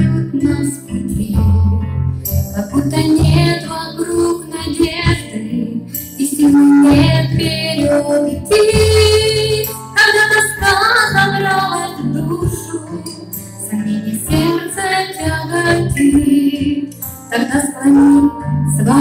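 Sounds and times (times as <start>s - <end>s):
woman singing a hymn: 0.0s - 1.6s, 2.6s - 19.0s
instrumental accompaniment: 0.0s - 19.0s.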